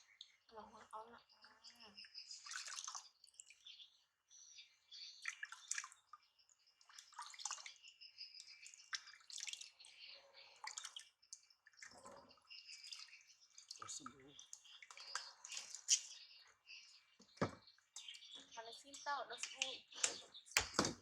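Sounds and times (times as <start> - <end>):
water splashing and dripping: 0.0 - 3.8, 4.9 - 16.4, 17.2 - 21.0.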